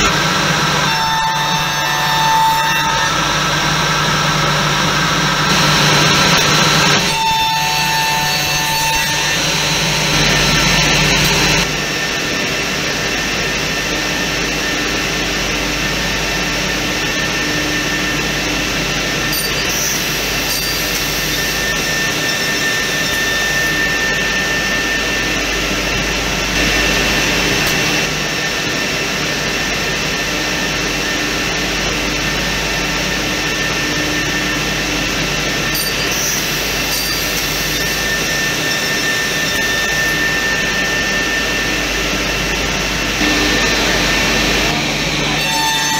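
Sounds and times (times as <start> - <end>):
machine whirring and whining: 0.0 - 45.9.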